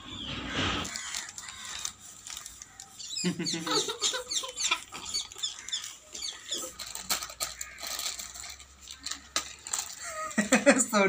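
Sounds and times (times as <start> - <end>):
foil packets crinkling: 0.8 - 11.0.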